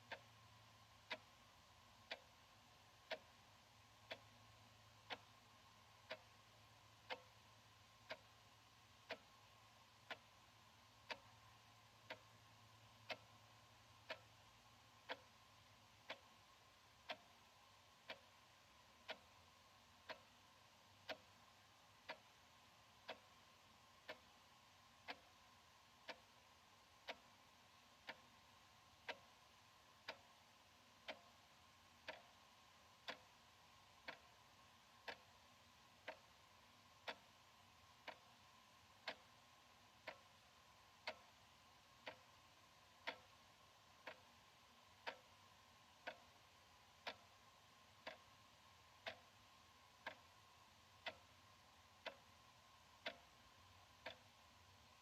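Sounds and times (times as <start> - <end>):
wall clock ticking: 0.0 - 55.0.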